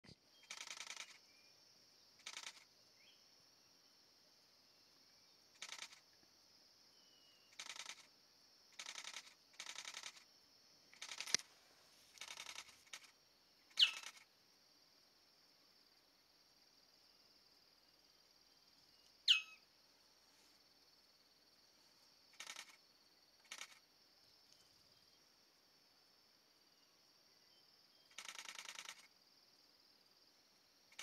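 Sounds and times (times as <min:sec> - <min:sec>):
high insect drone: 0:00.3 - 0:31.0.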